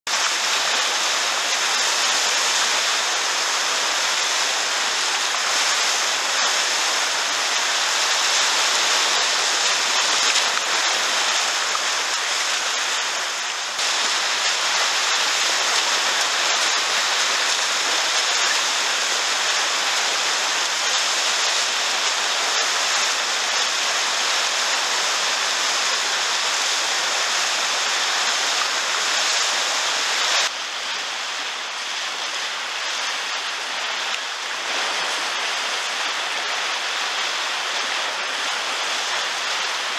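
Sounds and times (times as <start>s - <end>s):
whitewater rushing: 0.1s - 39.9s.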